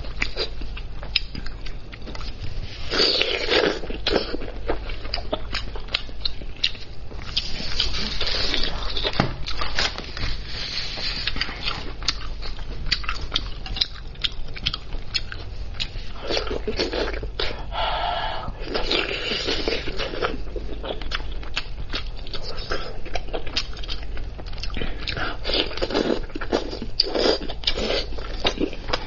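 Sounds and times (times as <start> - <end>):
wet chewing and smacking: 3.1 - 10.0, 11.2 - 17.6, 18.6 - 29.0.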